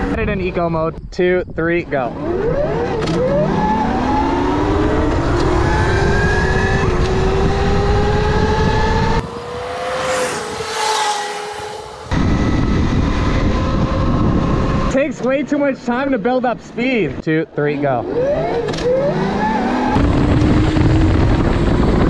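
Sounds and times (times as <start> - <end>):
wind rush on camera: 0.0 - 15.6, 19.8 - 22.0.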